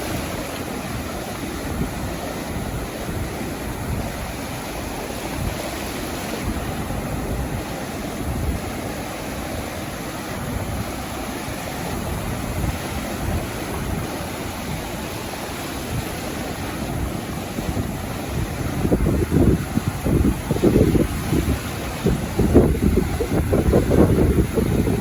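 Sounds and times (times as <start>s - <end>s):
sea waves washing onto beach: 0.0s - 25.0s
wind buffeting microphone: 0.0s - 25.0s.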